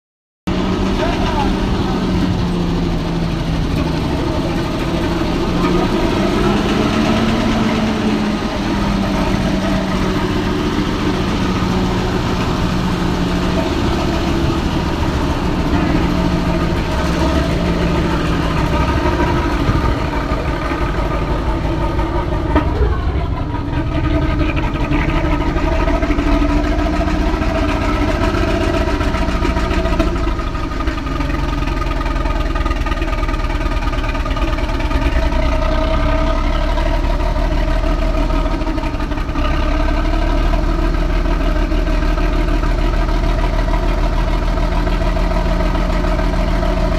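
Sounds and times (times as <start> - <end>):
diesel engine idling: 0.5 - 46.9.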